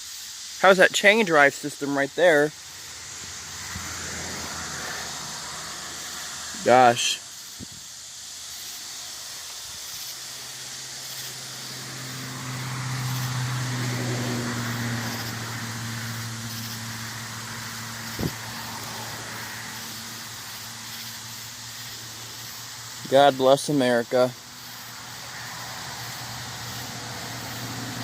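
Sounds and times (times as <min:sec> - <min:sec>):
steady hiss: 0:00.0 - 0:28.0
vehicle engine passing: 0:00.7 - 0:28.0.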